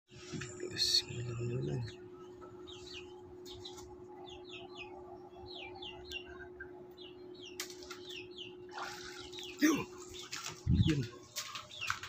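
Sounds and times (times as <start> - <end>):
birds chirping: 0.1 - 12.0
faint steady hum: 0.1 - 12.0.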